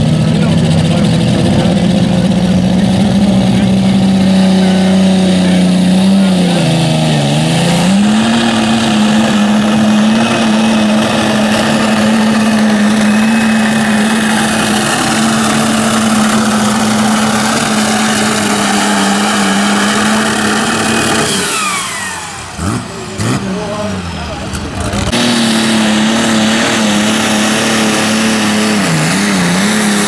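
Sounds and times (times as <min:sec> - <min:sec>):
diesel tractor engine at full throttle: 0:00.0 - 0:30.0
falling whine: 0:00.0 - 0:30.0.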